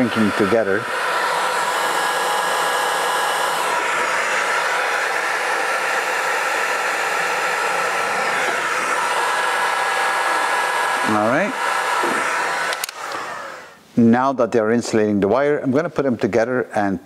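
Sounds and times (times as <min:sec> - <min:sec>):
heat gun blowing air: 0:00.0 - 0:13.9.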